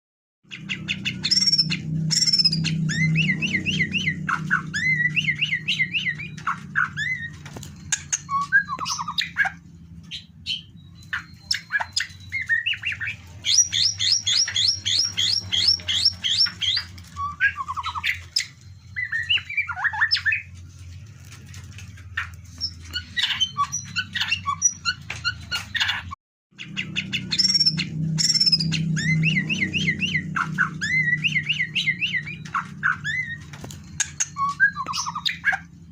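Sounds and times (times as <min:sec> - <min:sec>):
bird singing whistled song: 0:00.5 - 0:20.6, 0:22.2 - 0:26.0, 0:26.6 - 0:35.7.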